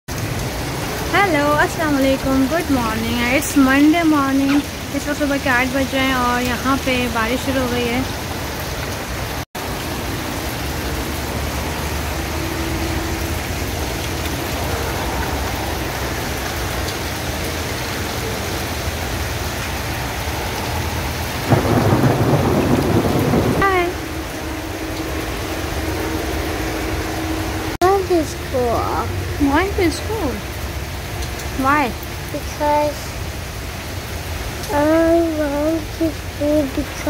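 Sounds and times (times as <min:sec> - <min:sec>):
rain on pavement and roof: 0:00.1 - 0:37.0.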